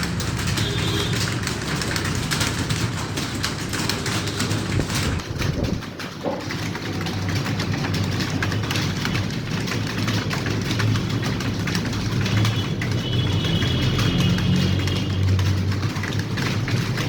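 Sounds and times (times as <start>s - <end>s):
keyboards clattering: 0.0s - 17.0s.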